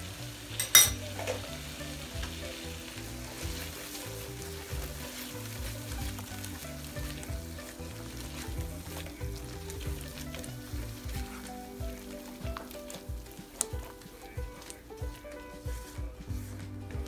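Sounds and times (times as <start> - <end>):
food sizzling in a wok: 0.0 - 16.4
spatula stirring and scraping: 0.0 - 17.0.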